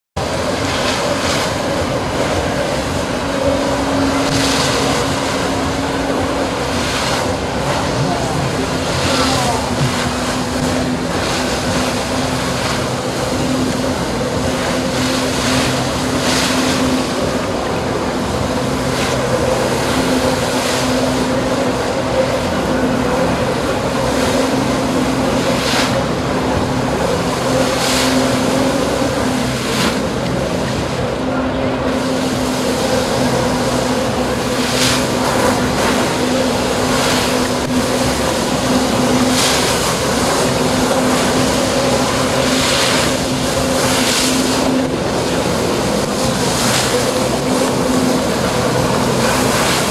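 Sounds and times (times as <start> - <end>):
jet ski engine at high revs: 0.2 - 49.9
water jets hissing and spraying: 0.2 - 49.9.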